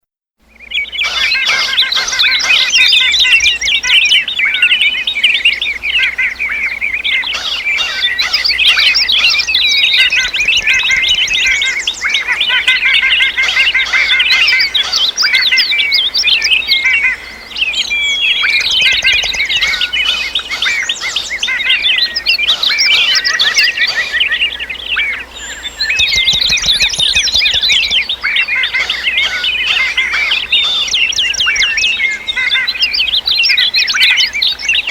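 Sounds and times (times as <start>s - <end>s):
small birds chirping: 0.5s - 34.9s.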